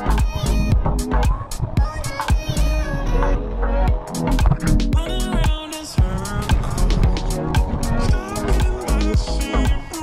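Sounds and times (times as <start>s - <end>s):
music with bass and drum beat: 0.0s - 10.0s.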